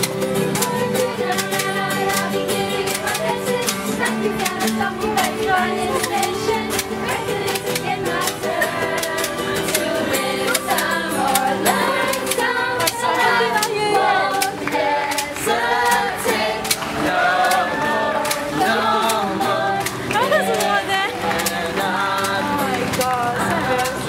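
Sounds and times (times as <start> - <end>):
group of voices singing: 0.0 - 24.0
music with steady beat: 0.0 - 24.0.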